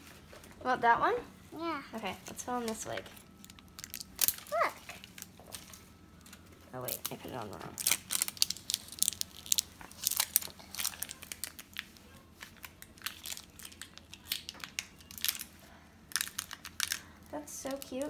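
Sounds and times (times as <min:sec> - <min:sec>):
plastic packaging crinkling: 0:02.6 - 0:18.0.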